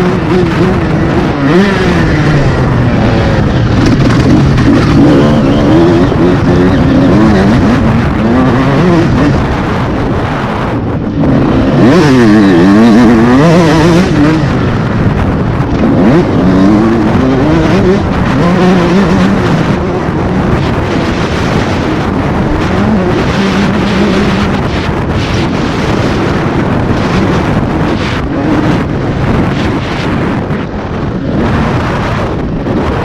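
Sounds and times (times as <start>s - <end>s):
motocross bike engine revving: 0.0s - 33.0s.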